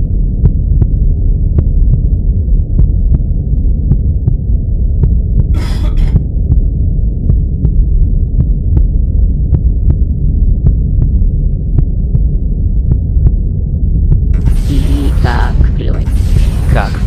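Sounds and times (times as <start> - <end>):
deep throbbing rumble: 0.0 - 17.0.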